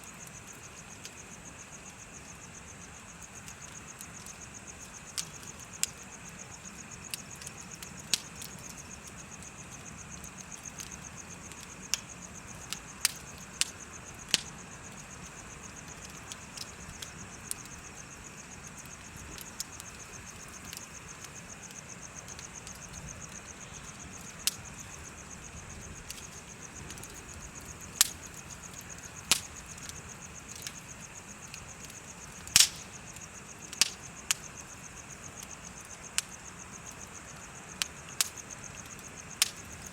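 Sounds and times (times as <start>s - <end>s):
bonfire crackling and popping: 0.0s - 39.9s
insects chirping: 0.0s - 39.9s.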